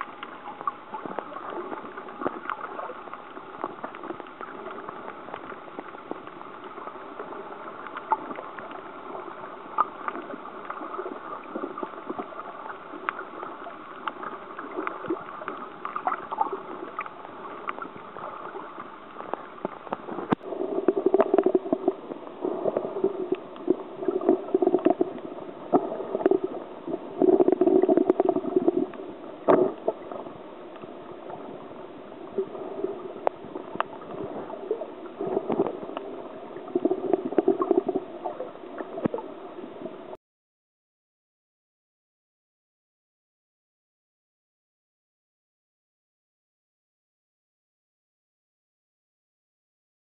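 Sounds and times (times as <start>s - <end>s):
underwater water gurgling and sloshing: 0.0s - 40.2s.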